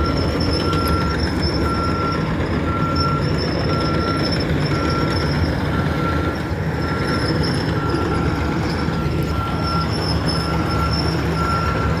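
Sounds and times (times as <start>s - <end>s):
diesel engine running: 0.0s - 12.0s
reversing alarm beeping: 0.0s - 12.0s.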